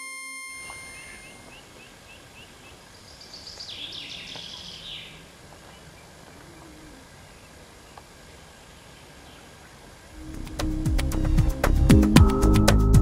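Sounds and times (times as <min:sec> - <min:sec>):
songbird singing: 0:00.0 - 0:11.3
background noise: 0:00.0 - 0:13.0.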